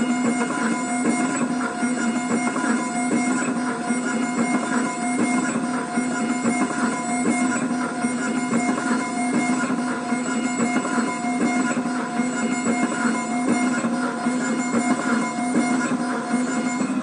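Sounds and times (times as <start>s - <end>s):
milling machine grinding: 0.0s - 17.0s.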